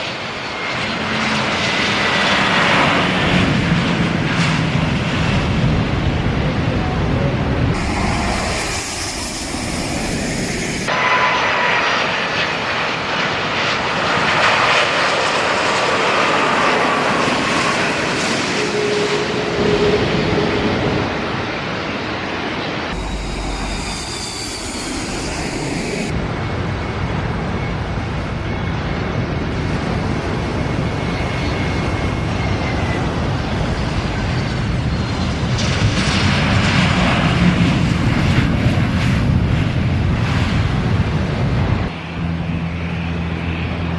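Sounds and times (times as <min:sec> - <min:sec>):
jet engines rushing and whining: 0:00.0 - 0:43.9.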